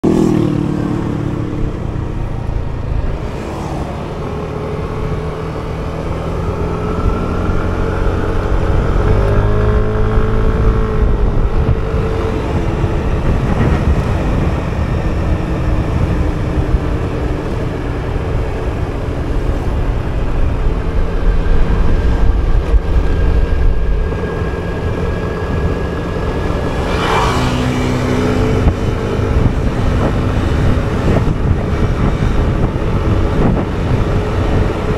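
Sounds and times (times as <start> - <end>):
motor scooter engine: 0.0 - 34.9
traffic: 0.0 - 34.9
wind rumble on microphone: 0.0 - 34.9.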